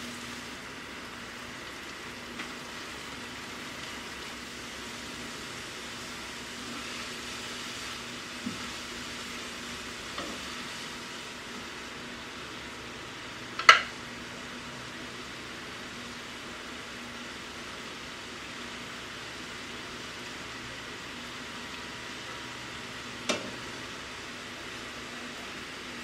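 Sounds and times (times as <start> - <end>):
vegetables sizzling in a pan: 0.0 - 26.0.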